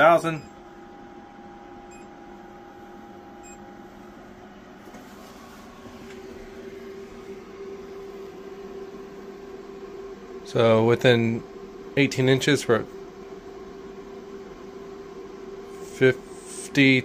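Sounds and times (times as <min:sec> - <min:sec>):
cooling fan noise: 0:00.0 - 0:17.0
electrical hum: 0:00.0 - 0:17.0.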